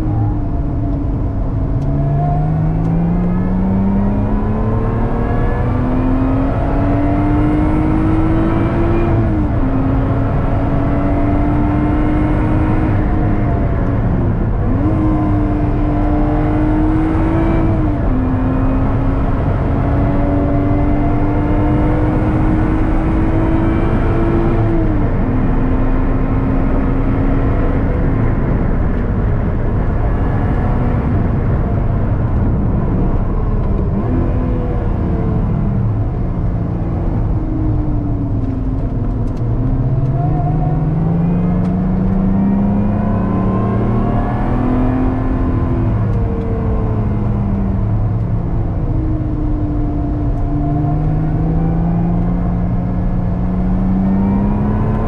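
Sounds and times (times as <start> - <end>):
car engine revving with gear shifts: 0.0 - 55.0
road and wind rumble: 0.0 - 55.0.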